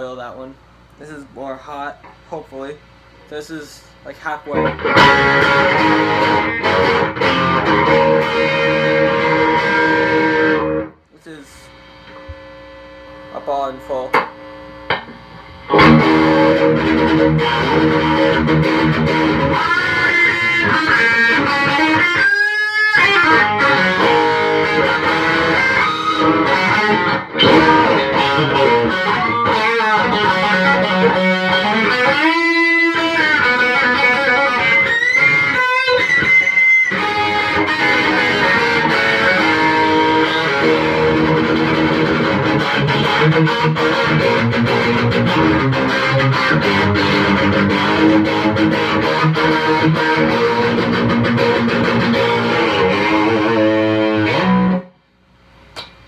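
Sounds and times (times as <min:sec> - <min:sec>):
electric guitar riffing: 0:03.4 - 0:55.0.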